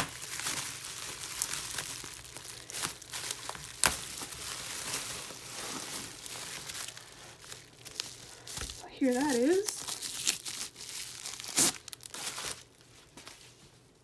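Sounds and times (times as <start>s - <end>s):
sharp plastic crackles: 0.0s - 13.2s
bubble wrap crinkling: 0.0s - 14.0s.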